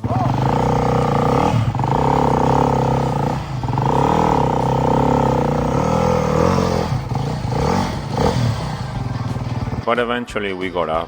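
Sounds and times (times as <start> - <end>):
dirt bike engine revving: 0.0 - 9.9.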